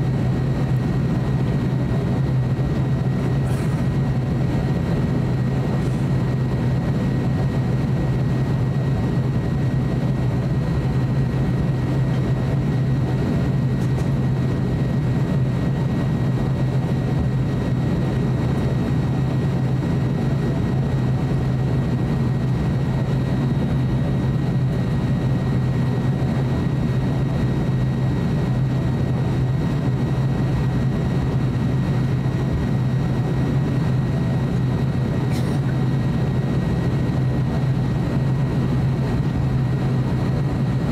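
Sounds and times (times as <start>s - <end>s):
propeller engines droning: 0.0s - 40.9s.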